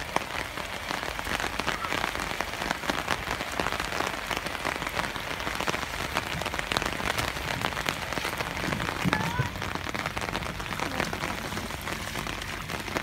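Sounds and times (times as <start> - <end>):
sharp close raindrop hits: 0.0 - 13.0
steady rain falling: 0.0 - 13.0.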